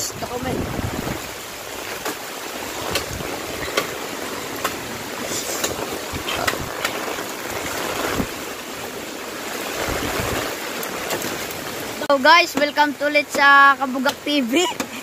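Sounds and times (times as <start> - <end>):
strong wind and rain: 0.0 - 15.0.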